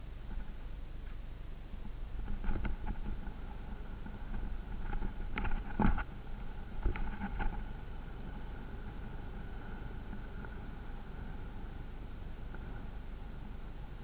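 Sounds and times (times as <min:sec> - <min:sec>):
vehicle engine low rumble: 0:00.0 - 0:14.0
wind on microphone: 0:01.8 - 0:14.0.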